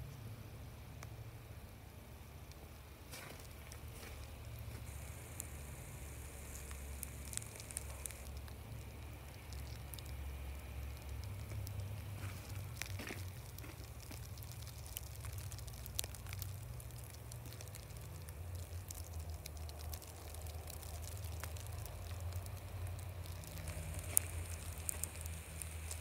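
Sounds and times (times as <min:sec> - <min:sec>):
low steady rumble: 0:00.0 - 0:26.0
faint ticks and crackles: 0:00.9 - 0:26.0.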